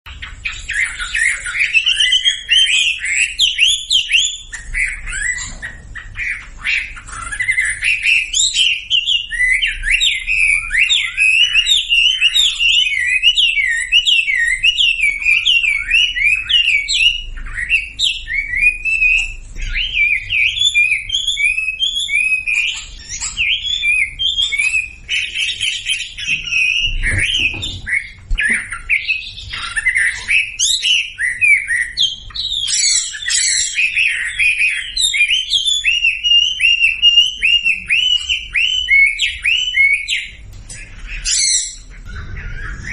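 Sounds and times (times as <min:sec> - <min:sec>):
songbird twittering song: 0:00.1 - 0:42.9.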